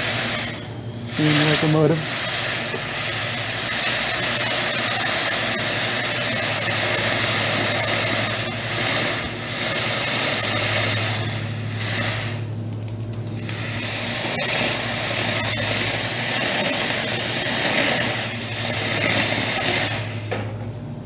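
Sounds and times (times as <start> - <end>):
hot steel quenching in water: 0.0 - 12.5, 13.4 - 20.3
steam hissing: 0.0 - 20.6.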